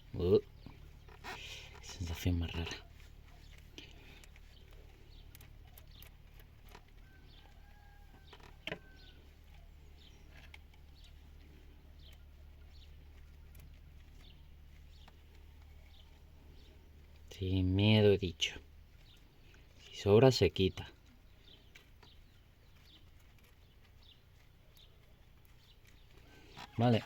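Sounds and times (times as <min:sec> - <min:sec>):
distant bird chirps: 0:00.0 - 0:27.0.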